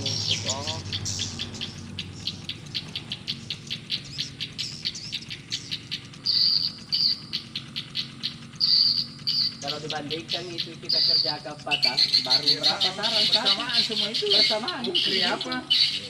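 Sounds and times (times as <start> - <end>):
fast bird chirps: 0.0 - 16.0.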